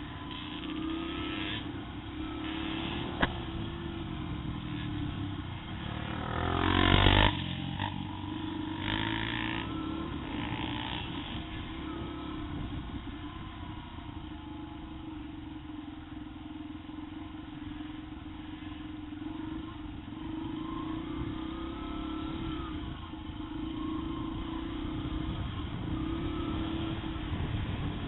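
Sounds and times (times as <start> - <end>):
motorbike engine revving: 0.0 - 15.7, 17.1 - 28.0.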